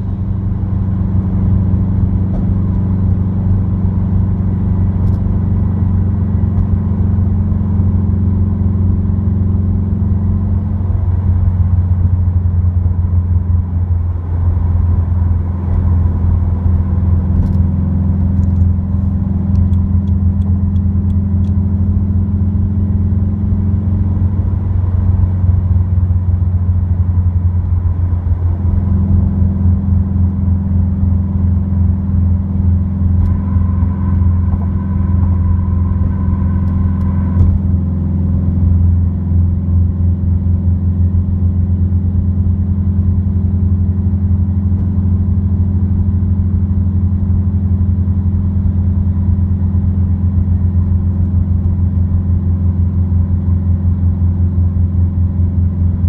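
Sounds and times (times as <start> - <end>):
car engine drone in cabin: 0.0 - 56.0.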